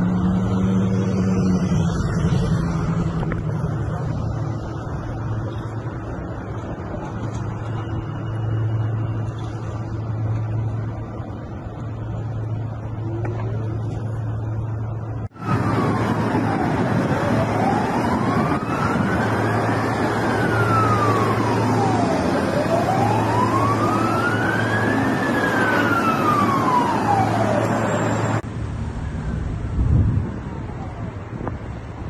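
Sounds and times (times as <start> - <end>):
emergency siren wailing: 0.0 - 28.4
traffic noise: 0.0 - 32.0.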